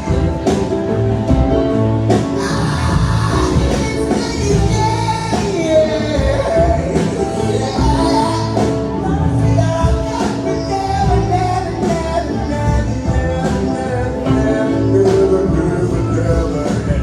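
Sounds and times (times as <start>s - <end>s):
live band playing: 0.0s - 17.0s
people singing: 0.0s - 17.0s.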